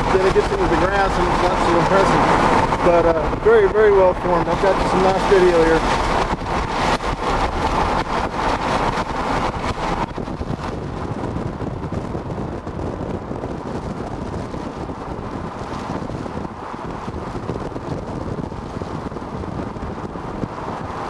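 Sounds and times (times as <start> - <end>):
moving vehicle rumble: 0.0 - 21.0
wind buffeting microphone: 0.0 - 21.0.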